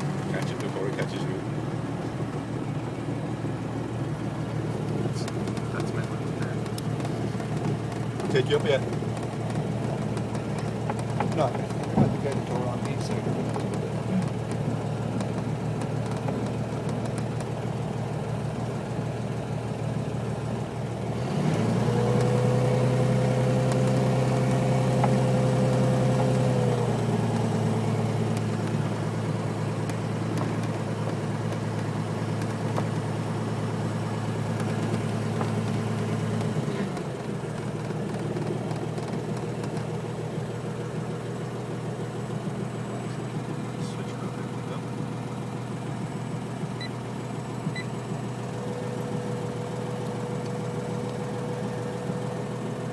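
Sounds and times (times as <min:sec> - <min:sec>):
light aircraft engine running: 0:00.0 - 0:52.9.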